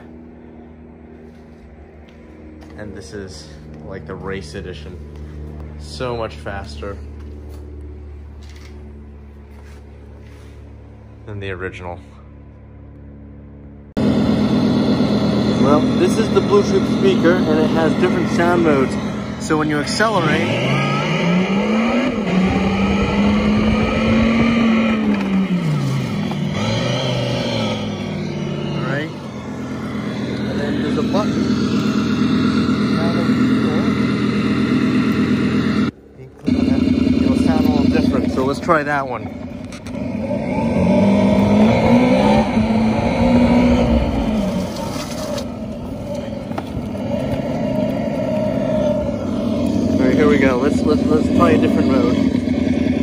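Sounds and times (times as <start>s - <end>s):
simulated engine sound from speaker: 0.0s - 53.0s.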